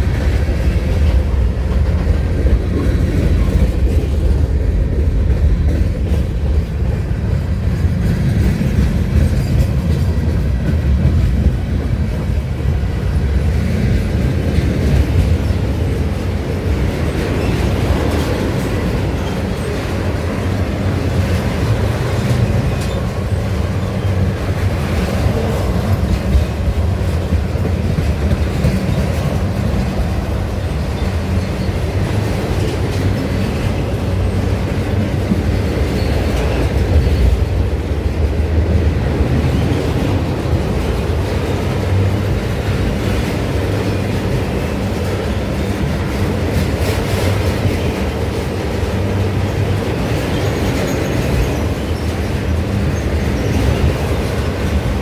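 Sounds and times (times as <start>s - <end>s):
freight train wheels clacking: 0.0s - 55.0s.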